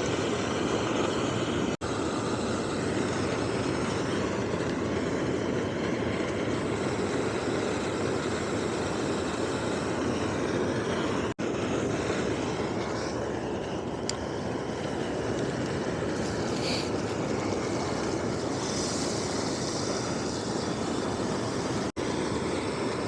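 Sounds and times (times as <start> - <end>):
surf breaking on beach: 0.0 - 23.0.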